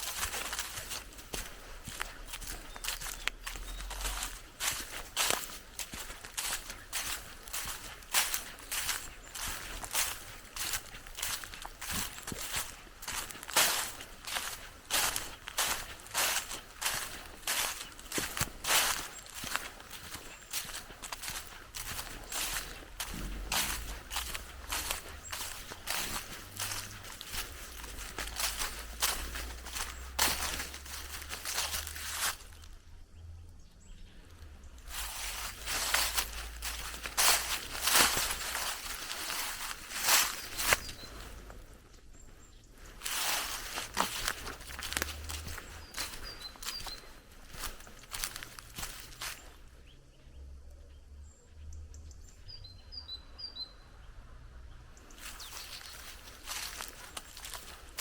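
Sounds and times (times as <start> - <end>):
footsteps crunching on forest path: 0.0 - 33.0, 34.0 - 50.0, 54.9 - 58.0
small bird chirping: 0.3 - 54.0, 54.9 - 58.0.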